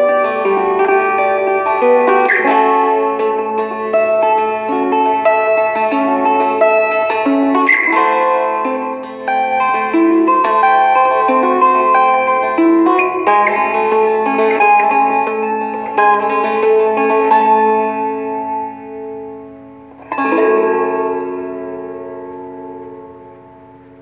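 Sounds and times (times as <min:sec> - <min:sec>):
fingerpicked acoustic guitar: 0:00.0 - 0:24.0.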